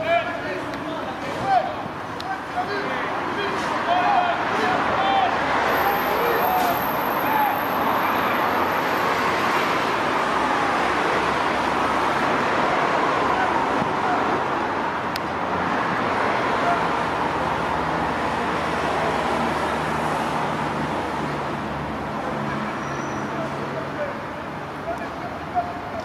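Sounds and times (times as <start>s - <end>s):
road traffic roar: 0.0s - 26.0s.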